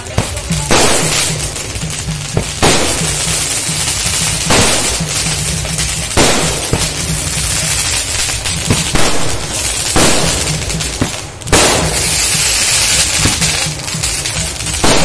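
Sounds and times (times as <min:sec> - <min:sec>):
crackling of bursting stars: 0:00.0 - 0:15.0
firework bangs: 0:00.0 - 0:15.0.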